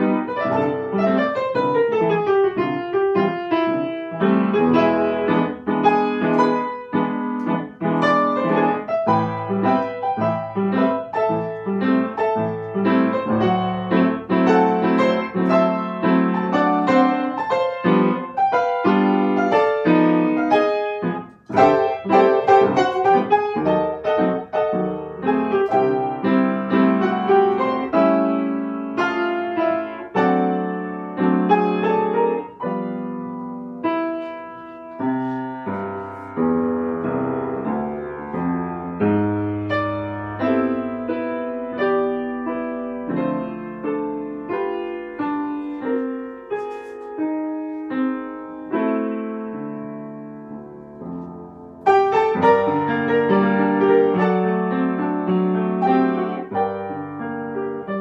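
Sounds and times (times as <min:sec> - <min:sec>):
solo piano chords: 0:00.0 - 0:58.0.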